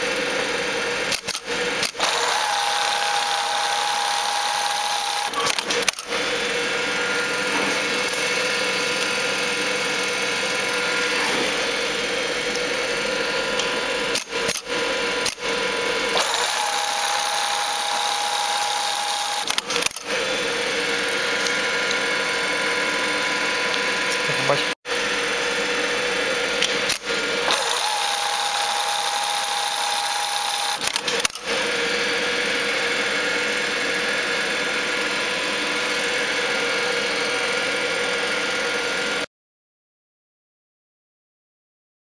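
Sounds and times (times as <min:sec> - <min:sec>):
sewing machine running: 0:00.0 - 0:39.3.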